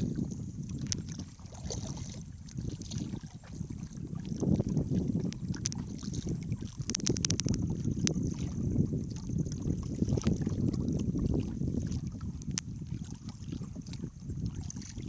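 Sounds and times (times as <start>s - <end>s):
low wind rumble on microphone: 0.0s - 15.0s
water lapping against boat hull: 0.0s - 15.0s.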